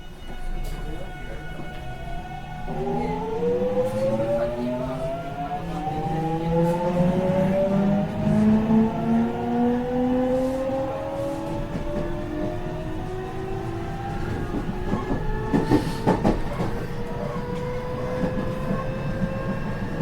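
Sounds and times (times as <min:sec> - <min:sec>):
electric train inverter whine: 0:00.0 - 0:20.0
train running rumble: 0:00.0 - 0:20.0.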